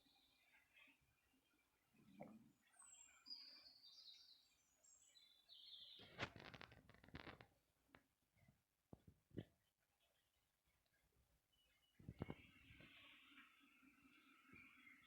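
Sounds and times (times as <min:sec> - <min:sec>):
faint bird chirps: 0:00.0 - 0:07.4, 0:09.6 - 0:15.0.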